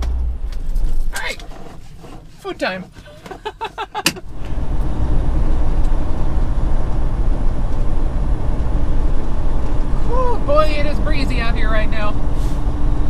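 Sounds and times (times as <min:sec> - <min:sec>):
truck cab low rumble: 0:00.0 - 0:13.0.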